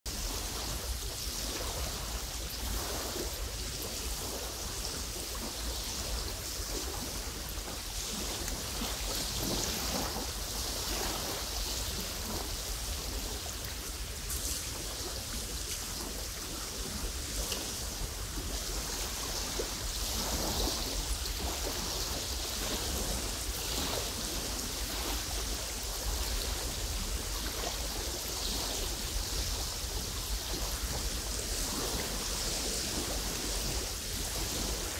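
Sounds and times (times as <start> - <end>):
wind rushing through grass: 0.0 - 34.9.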